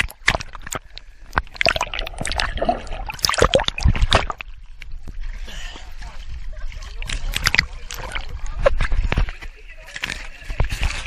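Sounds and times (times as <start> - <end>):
water splashing in pool: 0.0 - 9.4.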